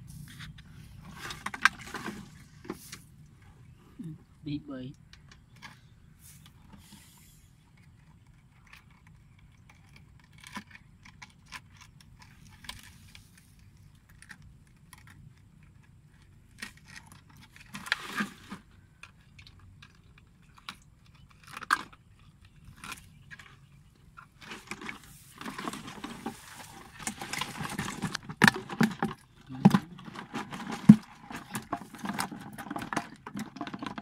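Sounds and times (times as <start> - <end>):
plastic crinkling and rustling: 0.0 - 3.7, 5.4 - 34.0.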